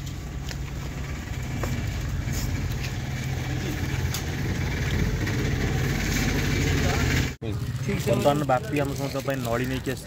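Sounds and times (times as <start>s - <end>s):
engine idling hum: 0.0s - 9.8s.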